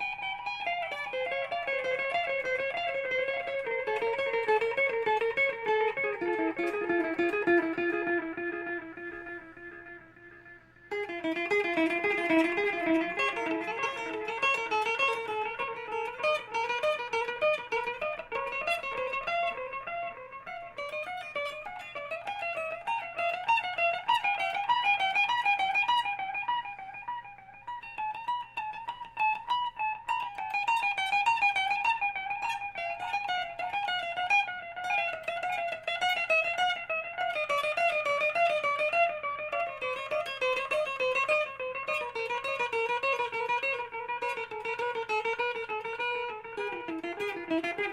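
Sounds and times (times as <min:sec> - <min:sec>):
electric guitar notes with echoes: 0:00.0 - 0:47.9.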